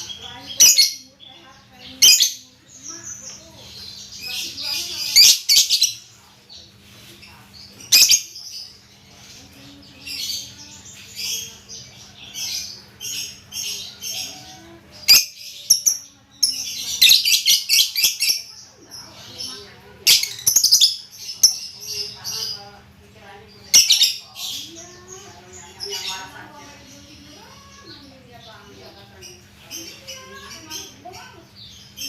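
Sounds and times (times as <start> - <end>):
songbird chirping and twittering: 0.0 - 32.0.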